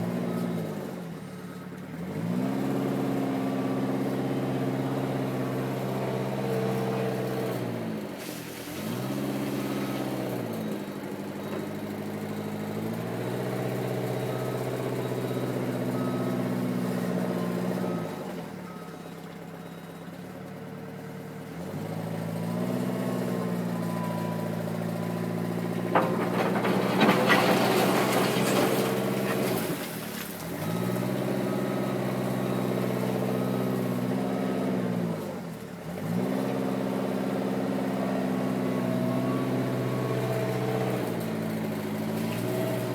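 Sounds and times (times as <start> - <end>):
backhoe engine working: 0.0 - 42.9.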